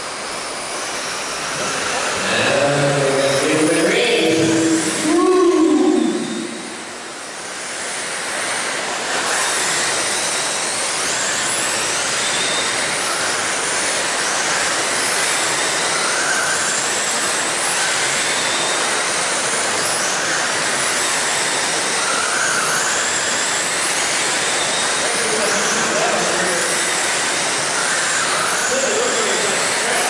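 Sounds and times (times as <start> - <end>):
rc car motors and tyres hissing: 0.0 - 5.2, 5.8 - 30.0
high motor whines: 0.0 - 30.0.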